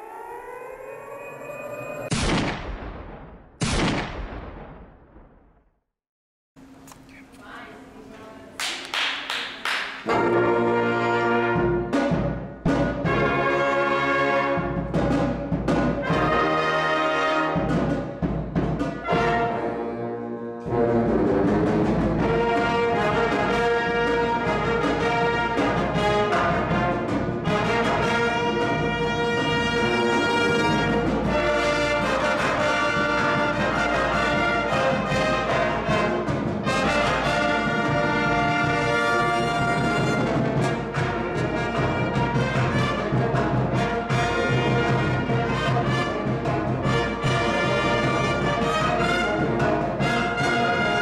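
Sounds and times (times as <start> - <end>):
pep band playing: 9.4 - 51.0.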